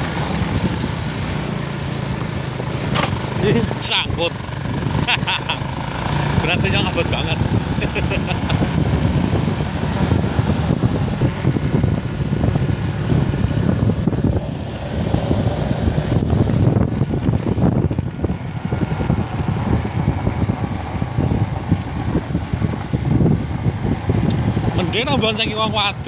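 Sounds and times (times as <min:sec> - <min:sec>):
motorcycle rumbling: 0:00.0 - 0:26.0
wind buffeting microphone: 0:00.0 - 0:26.0.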